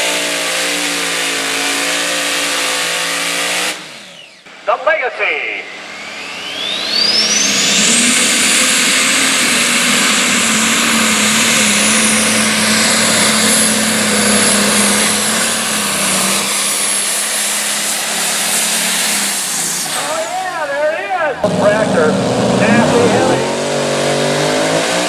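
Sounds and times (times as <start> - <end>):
diesel tractor engine at full load: 0.0 - 25.0.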